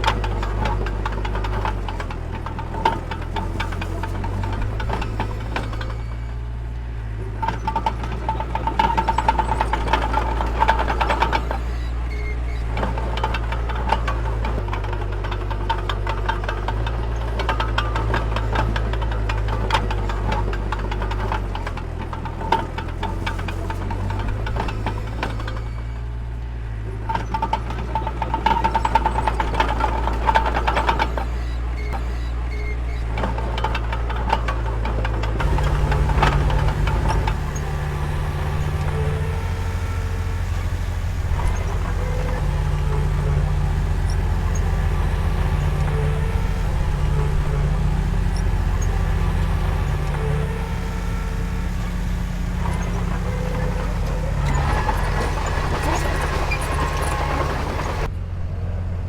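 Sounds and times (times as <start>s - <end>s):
rapid metallic rattling: 0.0s - 6.2s, 7.4s - 25.9s, 27.1s - 58.1s
heavy machine engine running: 0.0s - 59.0s.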